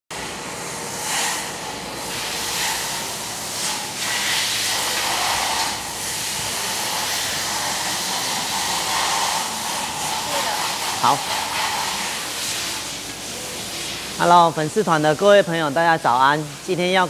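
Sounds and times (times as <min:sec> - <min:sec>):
steady hissing noise: 0:00.3 - 0:17.0.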